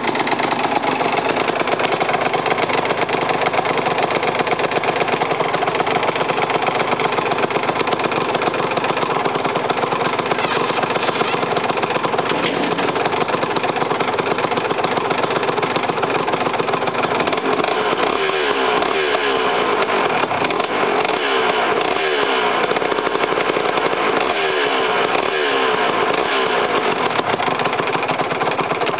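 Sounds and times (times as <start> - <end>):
two-stroke engine idling: 0.0 - 28.9.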